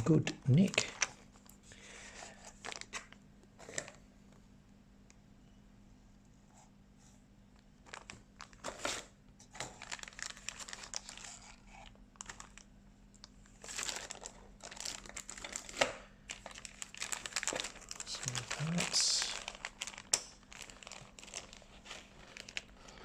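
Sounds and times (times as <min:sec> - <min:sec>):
plastic packaging crinkling: 0:00.1 - 0:01.6, 0:02.2 - 0:04.0, 0:07.8 - 0:23.0.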